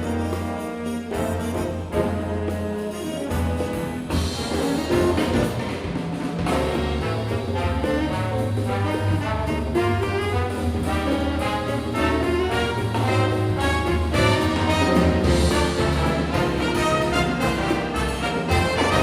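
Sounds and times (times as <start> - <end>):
jazz big band playing: 0.0 - 19.0.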